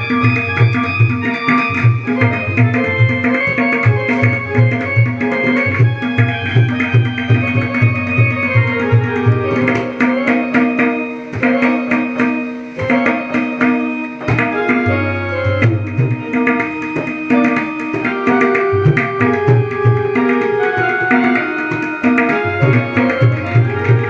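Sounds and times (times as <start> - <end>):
electronic keyboard melody: 0.0 - 24.0
tabla rhythm: 0.0 - 24.0.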